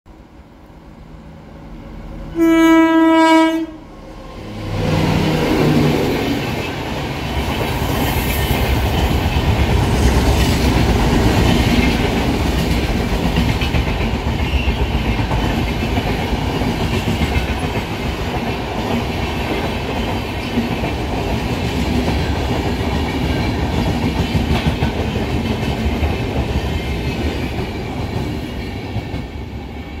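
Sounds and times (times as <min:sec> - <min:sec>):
train wheels rumbling on rails: 0:04.0 - 0:30.0.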